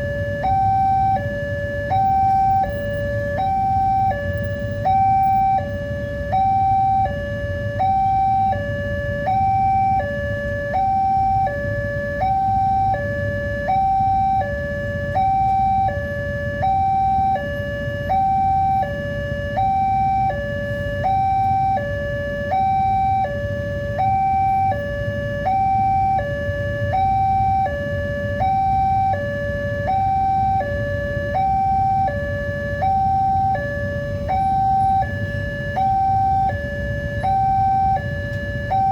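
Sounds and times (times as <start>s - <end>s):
level crossing alarm two-tone: 0.0s - 38.9s.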